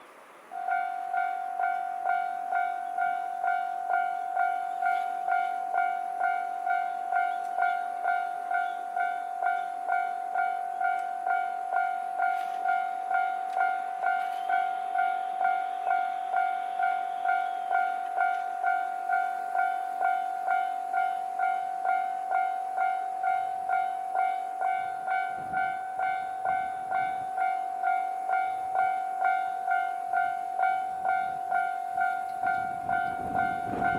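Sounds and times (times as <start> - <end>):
railcar engine rumble: 0.0 - 33.9
level crossing warning bell: 0.5 - 33.9.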